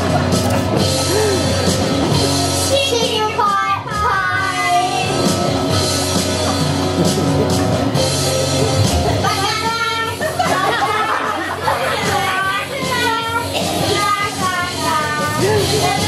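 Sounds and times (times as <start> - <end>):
backing music over sound system: 0.0 - 16.0.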